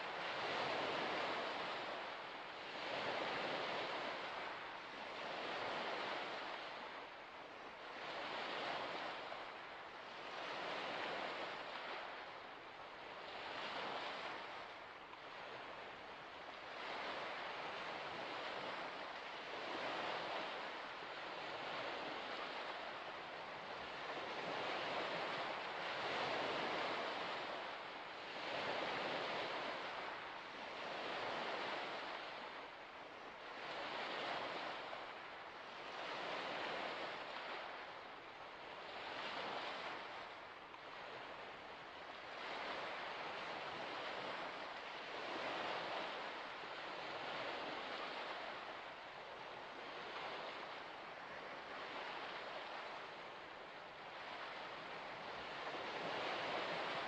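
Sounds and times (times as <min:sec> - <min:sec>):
waves washing in: 0:00.0 - 0:57.0.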